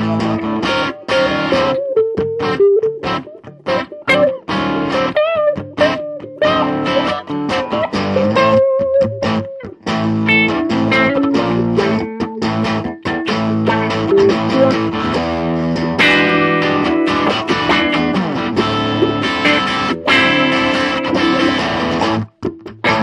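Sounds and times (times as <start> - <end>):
electric guitars playing: 0.0 - 23.0.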